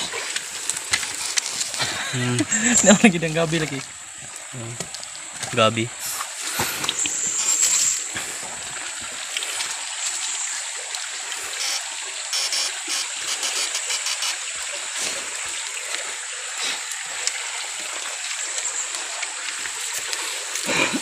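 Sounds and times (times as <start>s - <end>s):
people wading through water: 0.0s - 11.8s, 12.9s - 21.0s
stream water running: 0.0s - 21.0s.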